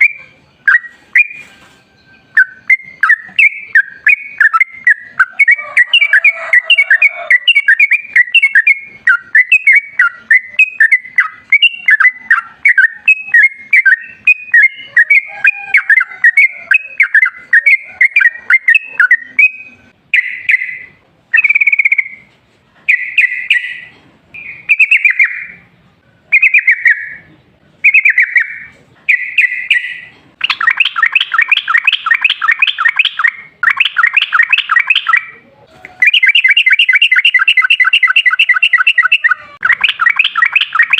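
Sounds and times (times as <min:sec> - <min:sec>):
bulbul singing: 0:00.0 - 0:22.3, 0:22.9 - 0:40.9.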